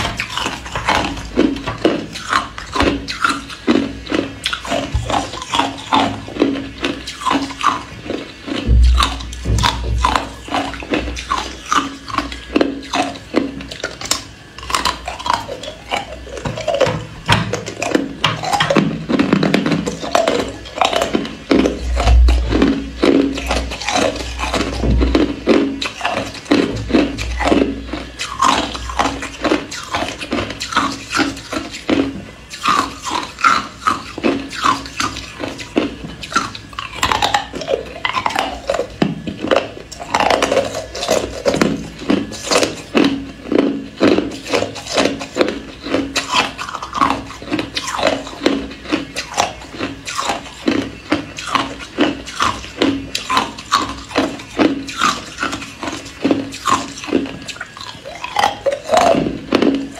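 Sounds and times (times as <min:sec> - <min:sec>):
ice cubes crunching: 0:00.0 - 0:59.9.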